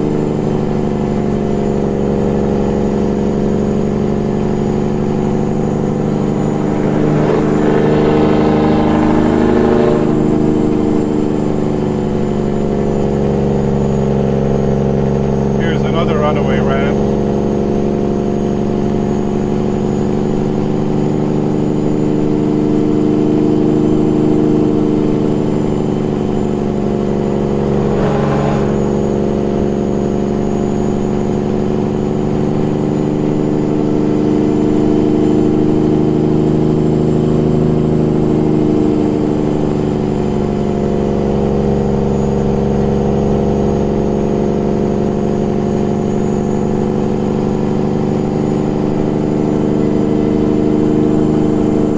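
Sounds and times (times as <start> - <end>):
diesel engine brake drone: 0.0 - 44.4.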